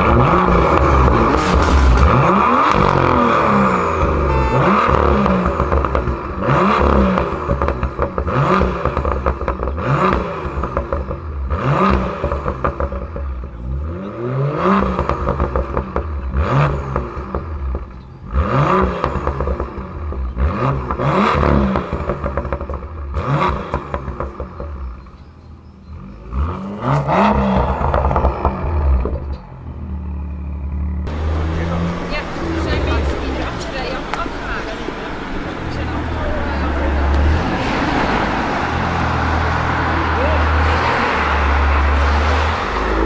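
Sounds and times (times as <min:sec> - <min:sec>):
car engine revving: 0:00.0 - 0:25.2, 0:25.8 - 0:43.0
exhaust crackles: 0:00.0 - 0:25.2, 0:26.0 - 0:43.0.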